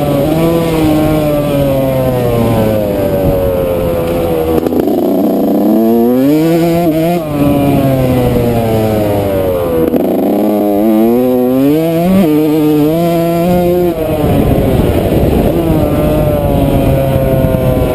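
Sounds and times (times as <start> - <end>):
two-stroke motorcycle engine revving: 0.0 - 17.9.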